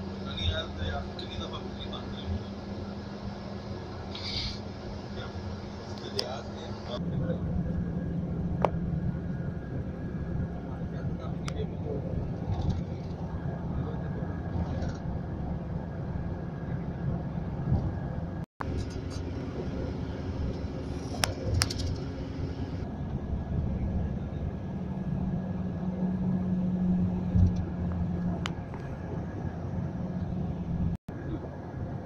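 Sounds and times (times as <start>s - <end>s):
bus road and engine rumble: 0.0s - 32.0s.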